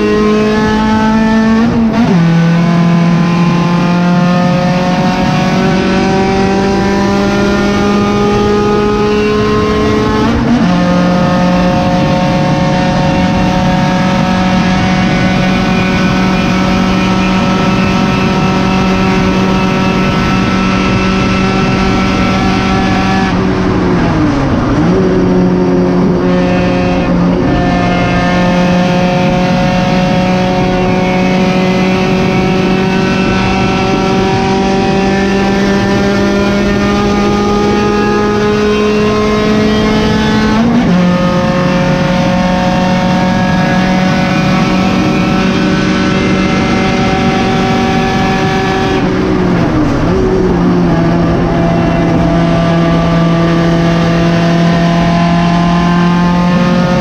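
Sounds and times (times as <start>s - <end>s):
car engine revving high: 0.0s - 57.0s.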